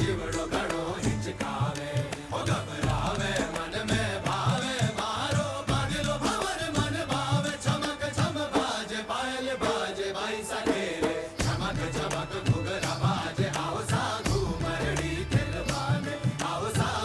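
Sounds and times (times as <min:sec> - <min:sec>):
person chanting: 0:00.0 - 0:17.0
regular percussion: 0:00.0 - 0:17.0.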